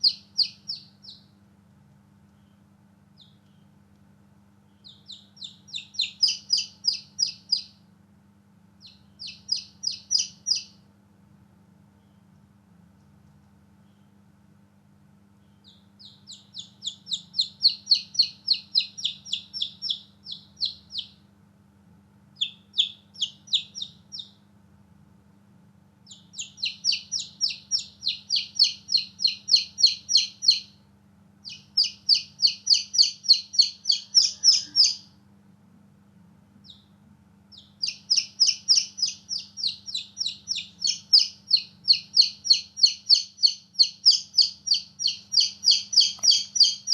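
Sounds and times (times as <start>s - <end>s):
baby chicks peeping: 0.0s - 7.9s, 8.7s - 10.9s, 15.2s - 21.3s, 22.4s - 24.5s, 26.0s - 35.2s, 36.6s - 46.9s.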